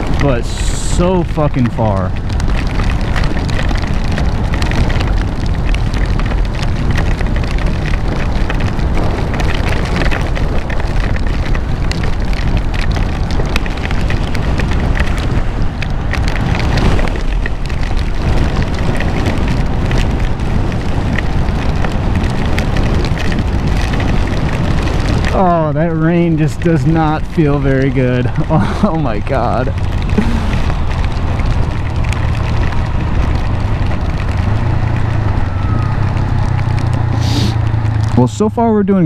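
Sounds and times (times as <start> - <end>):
rain striking helmet: 0.0 - 39.0
wind rumbling over helmet: 0.0 - 39.0.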